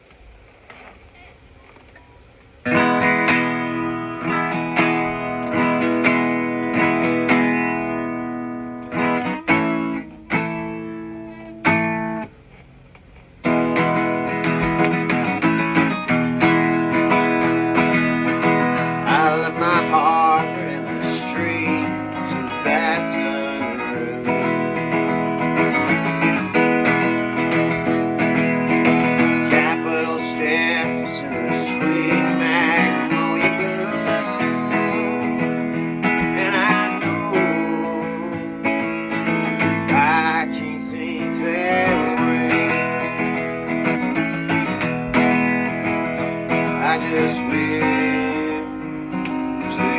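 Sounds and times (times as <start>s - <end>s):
acoustic guitar strumming: 0.0s - 49.9s.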